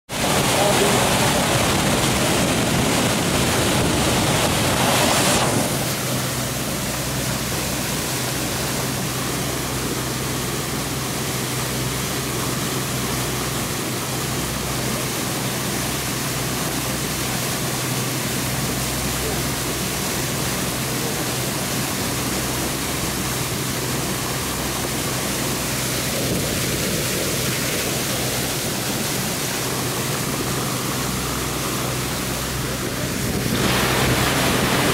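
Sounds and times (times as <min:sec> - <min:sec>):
low engine hum: 0:00.1 - 0:34.9
water rushing along a boat hull: 0:00.1 - 0:34.9.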